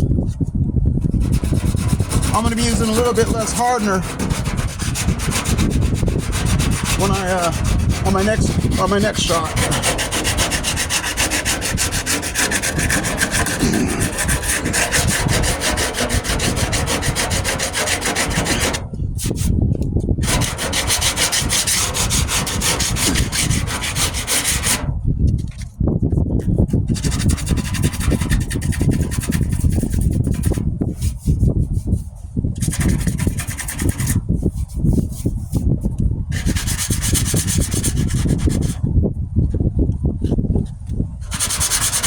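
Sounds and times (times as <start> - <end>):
rough rasping scrape of sanding: 1.0 - 19.6, 20.2 - 25.6, 26.5 - 38.8, 41.2 - 42.0.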